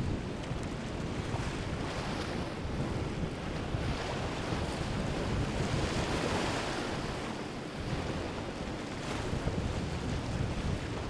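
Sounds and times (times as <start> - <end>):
ocean waves breaking: 0.0 - 11.0
wind buffeting microphone: 0.0 - 11.0.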